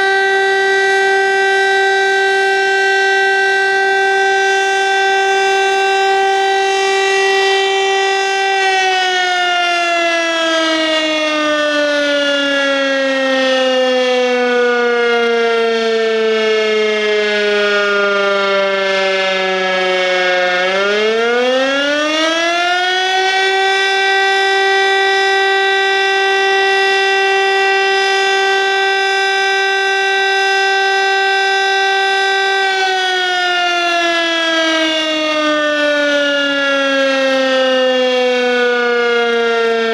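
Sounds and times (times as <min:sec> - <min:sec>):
fire siren wailing: 0:00.0 - 0:39.9.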